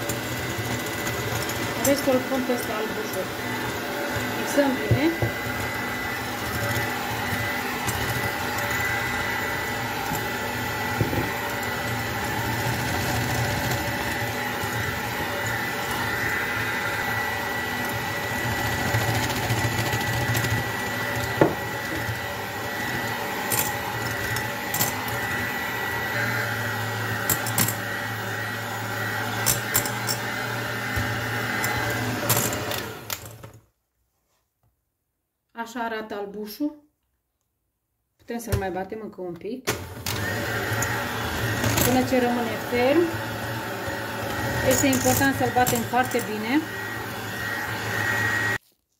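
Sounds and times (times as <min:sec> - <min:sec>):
electric hand mixer running: 0:00.0 - 0:33.6, 0:39.7 - 0:48.6.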